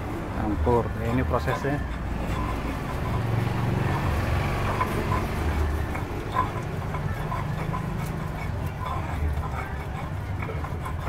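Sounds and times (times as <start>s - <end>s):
pestle grinding in mortar: 0.0s - 11.0s
traffic rumble: 0.0s - 11.0s.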